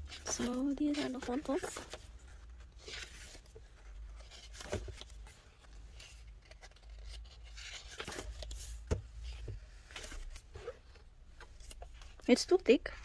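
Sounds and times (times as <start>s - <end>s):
paper and card rustling: 0.0s - 12.6s.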